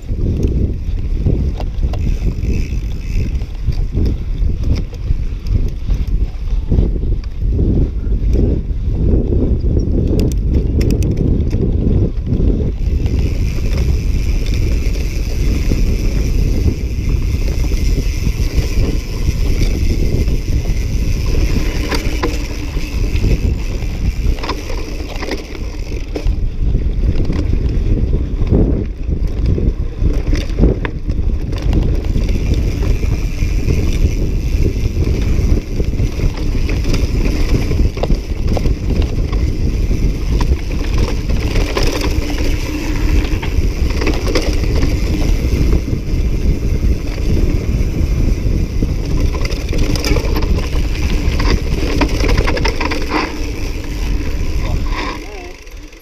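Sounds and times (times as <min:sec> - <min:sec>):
bike knocking and rattling: 0:00.0 - 0:56.0
bike tyres rumbling on dirt: 0:00.0 - 0:56.0
wind on microphone: 0:00.0 - 0:56.0.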